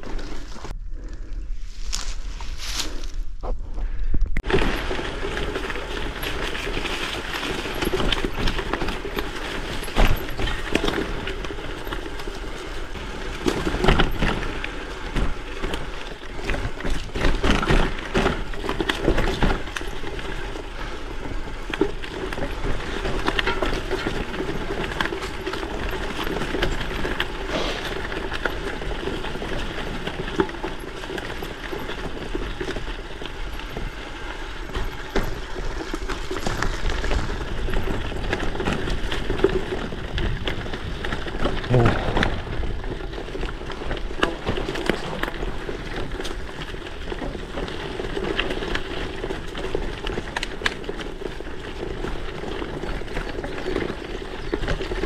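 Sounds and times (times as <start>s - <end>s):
bike rattling: 0.0s - 55.0s
bike tyres rolling on rough trail: 0.0s - 55.0s.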